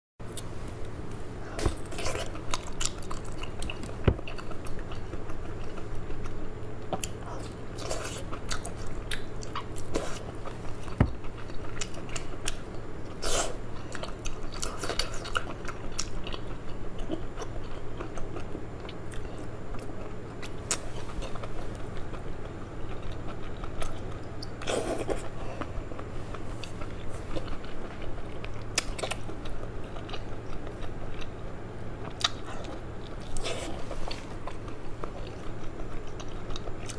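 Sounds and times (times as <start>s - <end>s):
steady low hum: 0.2s - 36.9s.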